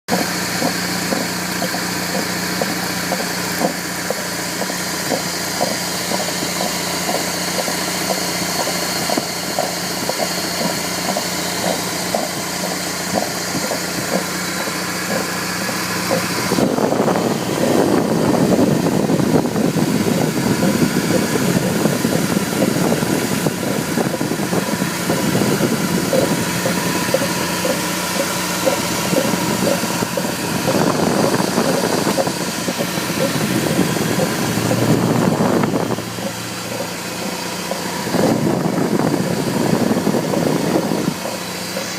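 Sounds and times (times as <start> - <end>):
car engine idling: 0.0 - 41.9
repeating engine knocking: 0.0 - 41.9.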